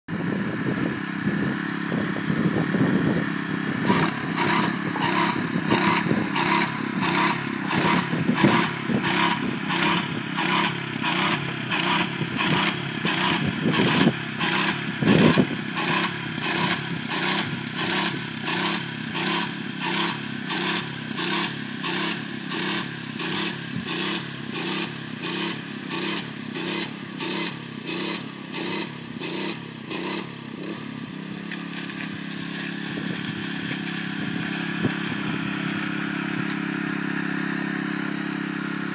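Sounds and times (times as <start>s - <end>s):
small engine running: 0.1s - 38.9s
pulsing paint spray hiss: 3.6s - 37.4s.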